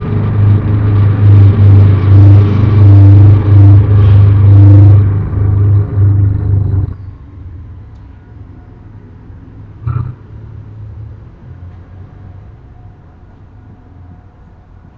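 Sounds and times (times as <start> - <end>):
low pulsing rumble with hum: 0.0 - 14.9.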